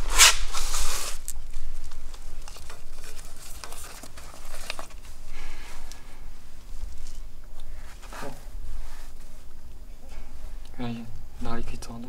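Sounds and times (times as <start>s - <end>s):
rustling and handling noise: 0.0s - 12.0s.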